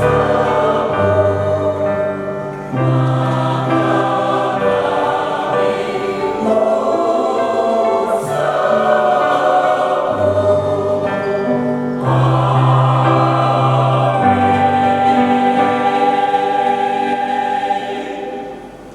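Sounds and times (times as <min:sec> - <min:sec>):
church choir singing a hymn: 0:00.0 - 0:18.9.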